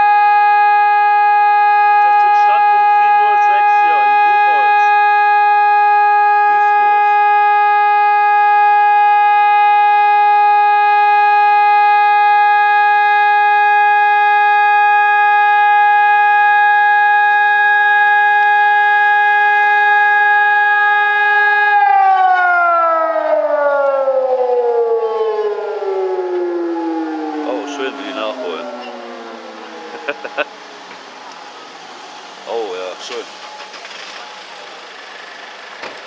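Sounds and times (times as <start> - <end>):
warning siren steady tone: 0.0 - 33.2.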